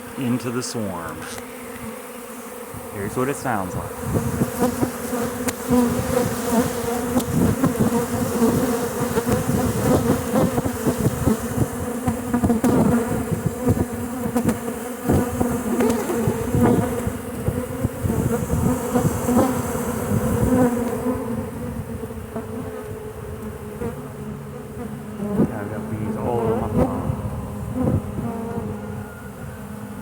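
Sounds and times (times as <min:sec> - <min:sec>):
bee swarm humming: 0:00.0 - 0:30.0
bees zipping past: 0:00.0 - 0:30.0.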